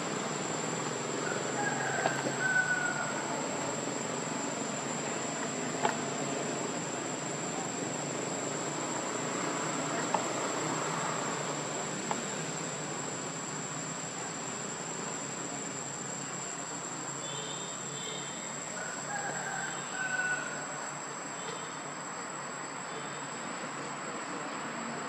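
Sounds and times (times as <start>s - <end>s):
background hiss: 0.0s - 25.0s
insects droning: 0.0s - 25.0s.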